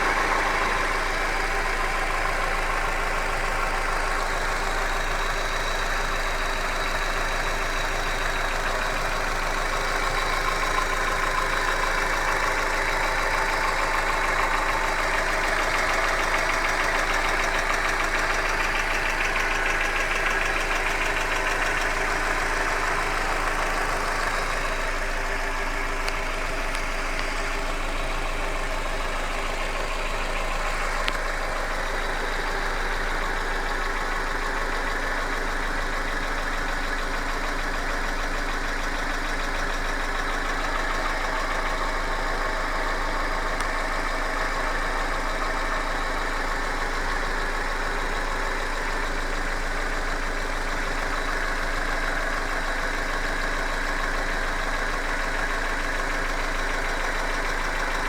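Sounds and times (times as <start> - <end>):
car engine running: 0.0 - 58.0
rapid engine knock: 0.0 - 58.0.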